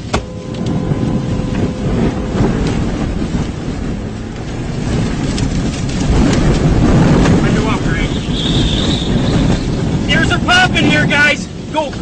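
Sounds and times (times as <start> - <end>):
steady tone: 0.0 - 10.3
strong wind against vehicle: 0.0 - 12.0.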